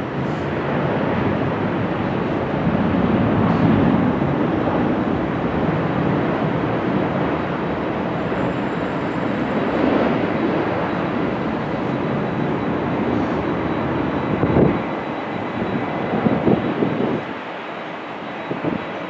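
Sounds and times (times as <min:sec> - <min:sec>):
jet airliner passing low: 0:00.0 - 0:19.0.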